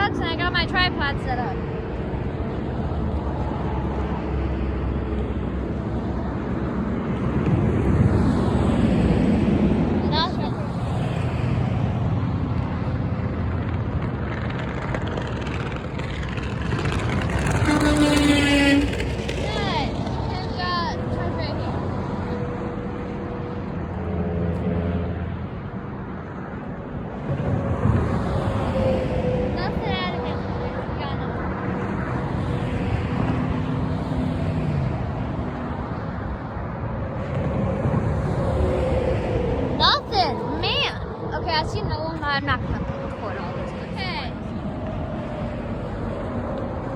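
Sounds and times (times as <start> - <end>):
road traffic rumble: 0.0 - 46.9
truck passing: 0.0 - 46.9.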